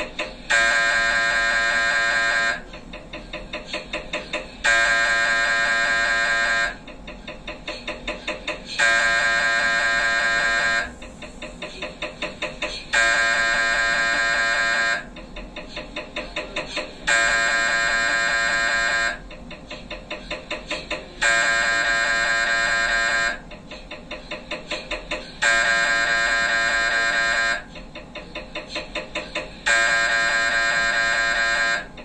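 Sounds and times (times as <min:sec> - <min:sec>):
mri scanner buzzing and pulsing: 0:00.0 - 0:32.0.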